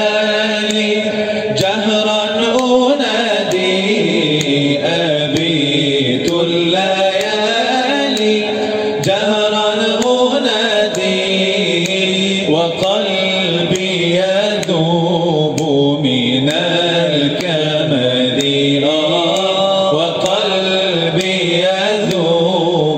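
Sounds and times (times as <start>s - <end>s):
man chanting devotional song: 0.0s - 22.9s
steady held low drone: 0.0s - 22.9s.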